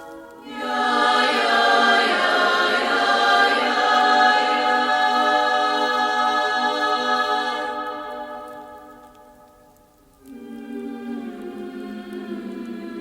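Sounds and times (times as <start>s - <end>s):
throat singing drone: 0.0s - 9.6s, 10.2s - 13.0s.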